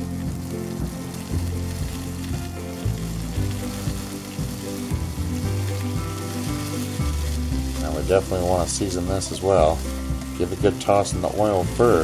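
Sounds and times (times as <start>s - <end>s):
asparagus sizzling in oil: 0.0s - 12.0s
background music: 0.0s - 12.0s.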